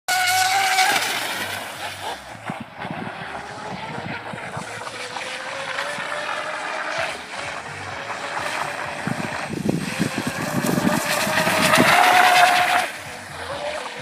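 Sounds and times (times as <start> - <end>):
model boat engine whine: 0.1 - 14.0.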